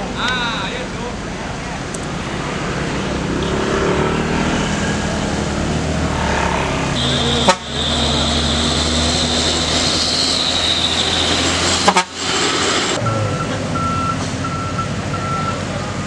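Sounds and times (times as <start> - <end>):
dump truck engine droning: 0.0 - 16.0.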